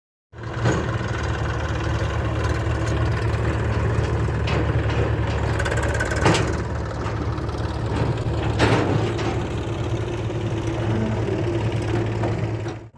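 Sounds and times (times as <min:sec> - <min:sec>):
diesel engine idling: 0:00.4 - 0:12.9
metallic clanks: 0:02.2 - 0:12.9.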